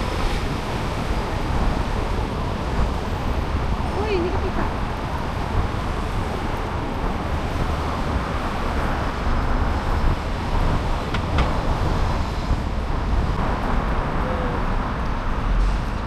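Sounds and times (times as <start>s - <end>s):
street noise with low rumble: 0.0s - 16.0s.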